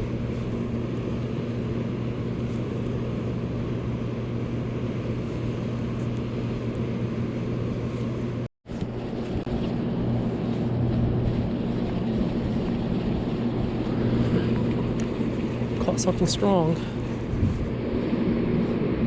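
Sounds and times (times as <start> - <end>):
low motor hum: 0.0 - 19.0
noisy rush: 0.0 - 19.0.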